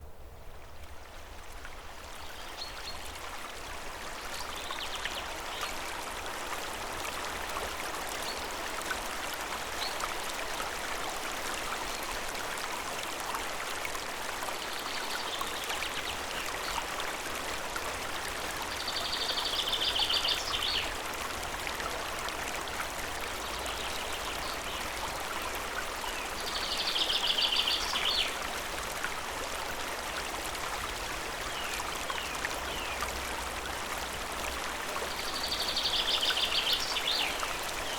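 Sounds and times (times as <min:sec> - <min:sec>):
water rushing: 0:01.2 - 0:37.9.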